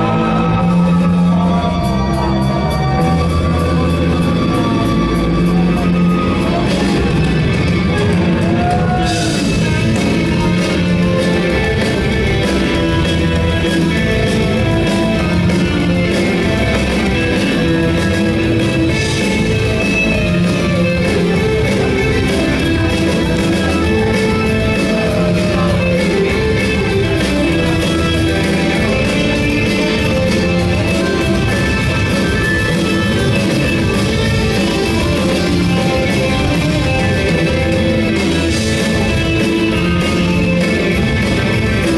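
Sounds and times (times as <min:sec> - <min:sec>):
drums: 0:00.0 - 0:41.9
electric guitars: 0:00.0 - 0:41.9
live rock band playing: 0:00.0 - 0:41.9.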